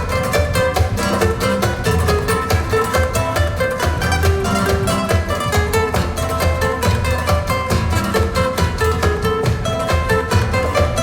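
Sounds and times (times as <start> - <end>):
recorded music with strong bass: 0.0 - 11.0.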